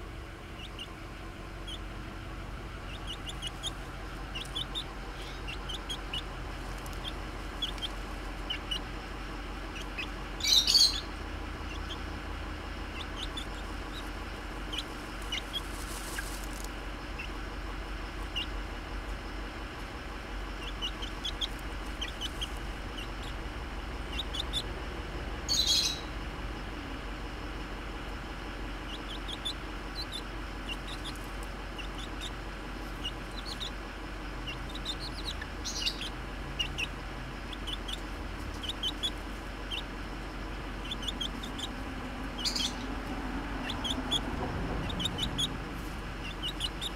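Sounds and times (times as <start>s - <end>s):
chick peeping: 0.0s - 19.3s, 20.5s - 27.6s, 28.8s - 46.9s.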